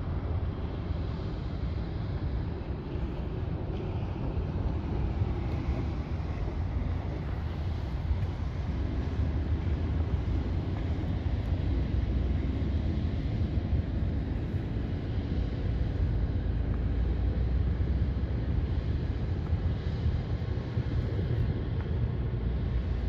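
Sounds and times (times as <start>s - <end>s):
faint steady drone: 0.0s - 23.0s
ship engine rumble: 0.0s - 23.0s
wind on microphone: 0.0s - 23.0s.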